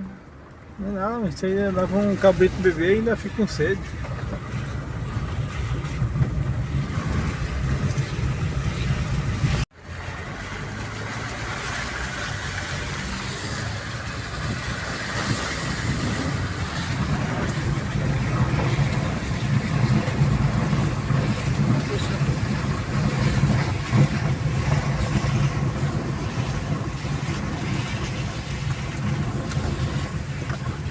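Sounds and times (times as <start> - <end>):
vehicle engine and road rumble: 0.0 - 30.9.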